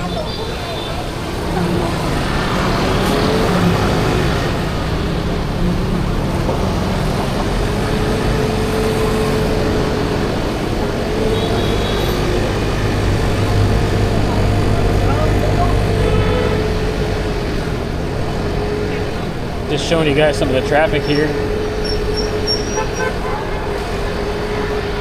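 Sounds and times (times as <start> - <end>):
road noise: 0.0 - 25.0
scooter engine cruising: 0.0 - 25.0.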